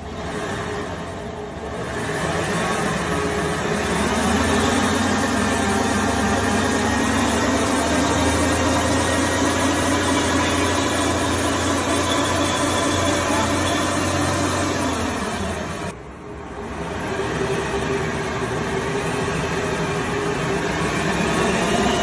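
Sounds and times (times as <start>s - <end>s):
mechanical drone: 0.0s - 22.0s.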